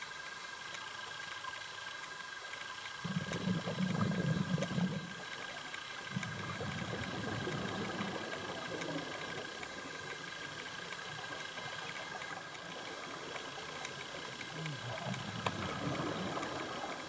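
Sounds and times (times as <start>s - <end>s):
underwater bubbling rumble: 3.0s - 17.0s.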